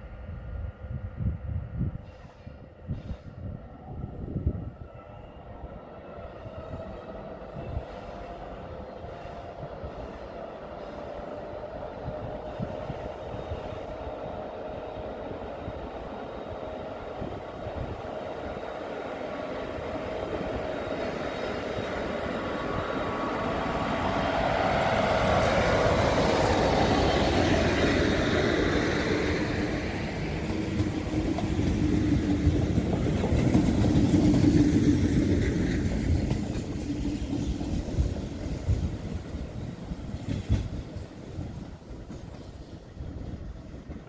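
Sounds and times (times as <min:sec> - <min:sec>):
electric train passing: 0:00.0 - 0:44.0
locomotive humming tone: 0:00.0 - 0:44.0.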